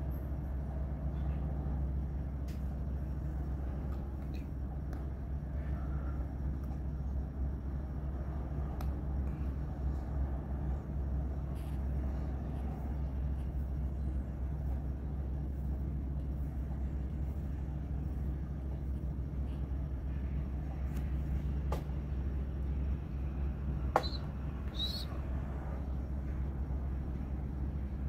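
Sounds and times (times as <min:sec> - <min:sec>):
low rumble and hum: 0:00.0 - 0:28.0.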